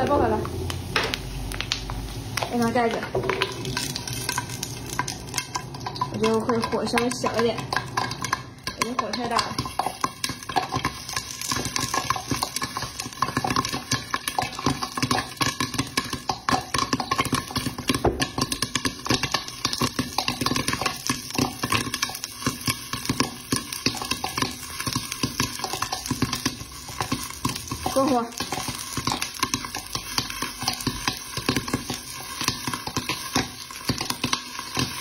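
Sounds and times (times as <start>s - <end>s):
popcorn popping under a lid: 0.0s - 35.0s.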